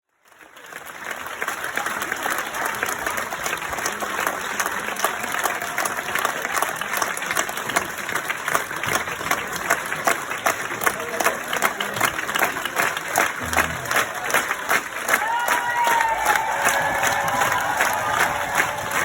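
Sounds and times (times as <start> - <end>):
crowd clapping: 0.1 - 19.0.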